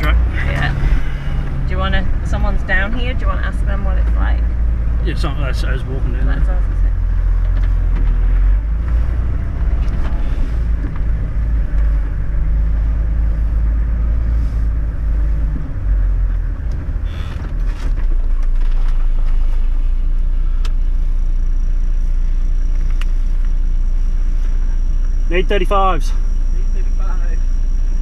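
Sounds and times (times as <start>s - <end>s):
vehicle engine rumbling at low revs: 0.0s - 28.0s.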